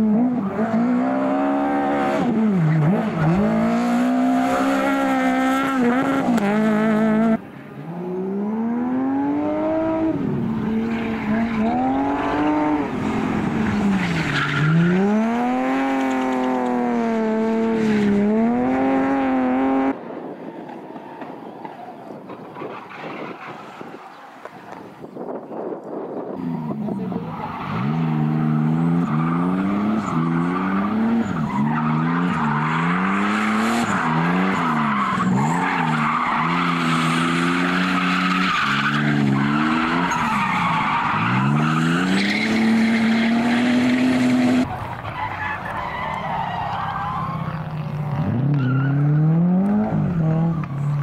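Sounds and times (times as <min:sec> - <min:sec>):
rally car engines revving: 0:00.0 - 0:25.4, 0:26.3 - 0:51.0.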